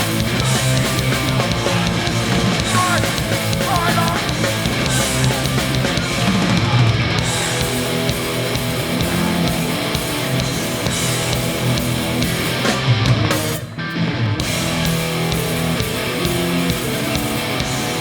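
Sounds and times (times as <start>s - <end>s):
punk band playing: 0.0s - 18.0s.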